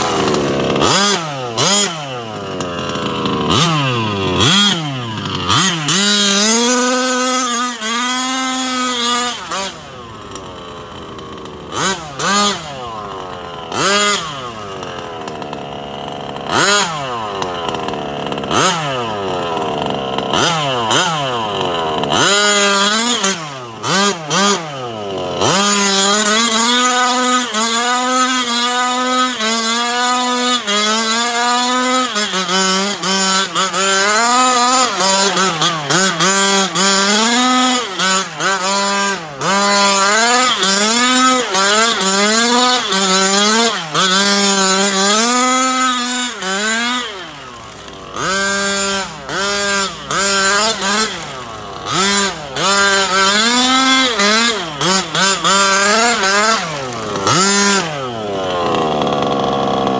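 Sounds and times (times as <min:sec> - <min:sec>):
small two-stroke engine revving: 0:00.0 - 0:59.9.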